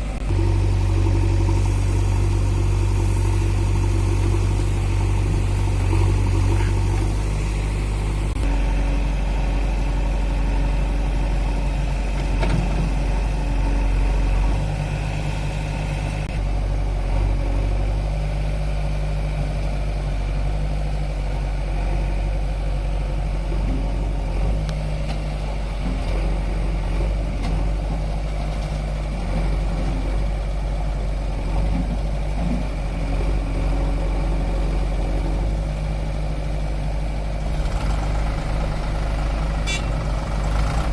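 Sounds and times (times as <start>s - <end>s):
diesel engines humming: 0.0s - 40.9s.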